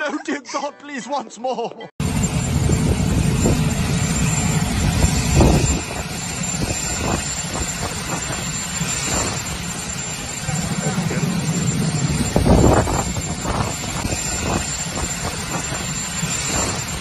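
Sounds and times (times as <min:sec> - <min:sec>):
aircraft rumble: 0:02.0 - 0:17.0
thin high whine: 0:02.0 - 0:17.0
wind: 0:02.0 - 0:17.0.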